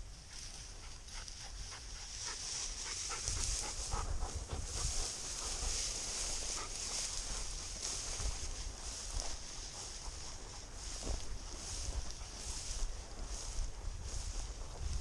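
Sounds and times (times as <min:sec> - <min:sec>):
dog panting: 0:00.4 - 0:12.5.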